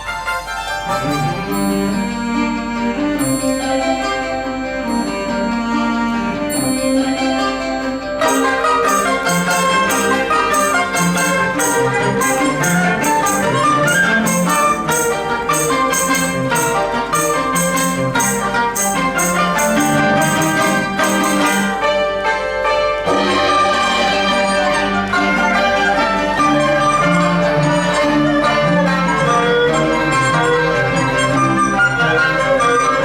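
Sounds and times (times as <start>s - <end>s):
chamber ensemble playing: 0.0s - 33.0s.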